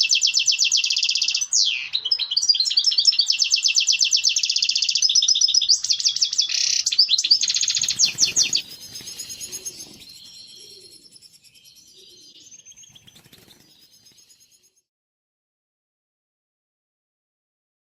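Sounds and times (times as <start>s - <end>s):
bird twittering song: 0.0s - 14.9s.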